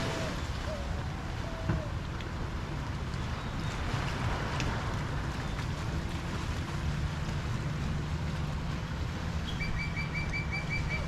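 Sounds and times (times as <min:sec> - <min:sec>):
surf rumbling: 0:00.0 - 0:11.0
wind: 0:00.0 - 0:11.0.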